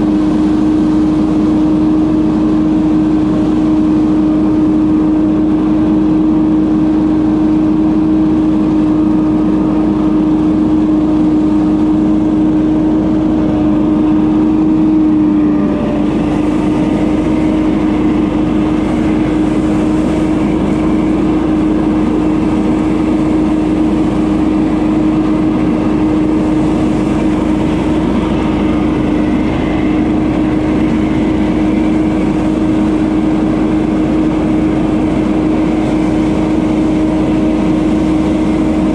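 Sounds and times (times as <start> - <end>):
leaf blower engine running: 0.0 - 38.9.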